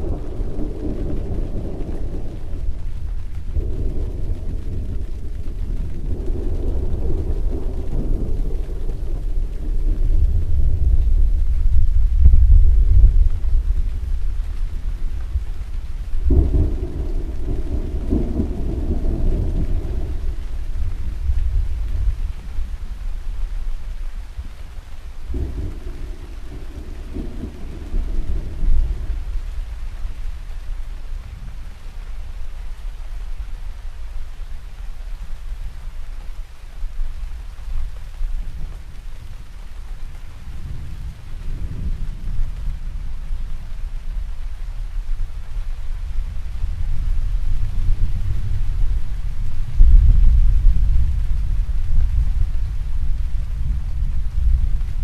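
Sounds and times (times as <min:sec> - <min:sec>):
thunderclap: 0:00.0 - 0:32.9, 0:37.7 - 0:55.0
rain: 0:00.0 - 0:55.0
thunder rumbling: 0:00.0 - 0:55.0.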